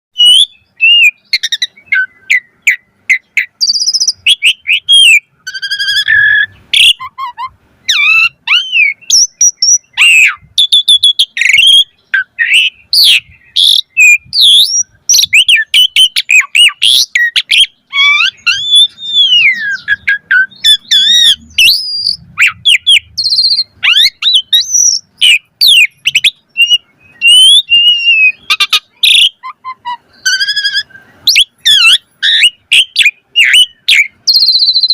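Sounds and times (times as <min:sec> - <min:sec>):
starling singing: 0:00.2 - 0:34.9.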